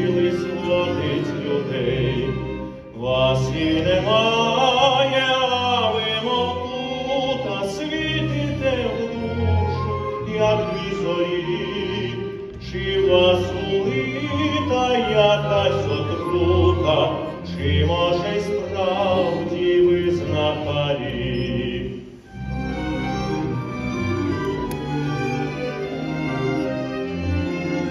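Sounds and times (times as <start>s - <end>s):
operatic singing: 0.0s - 27.9s
orchestral accompaniment: 0.0s - 27.9s.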